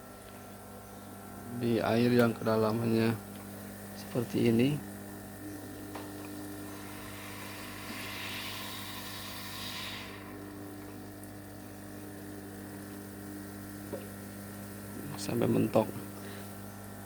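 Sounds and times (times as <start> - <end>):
air pump humming: 0.0 - 17.0.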